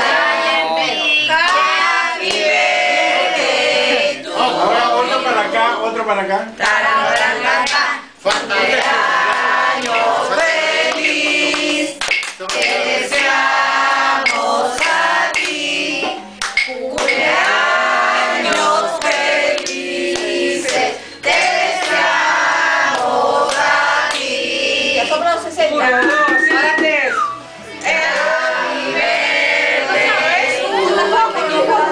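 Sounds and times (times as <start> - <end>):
group singing a celebration song: 0.0 - 31.9.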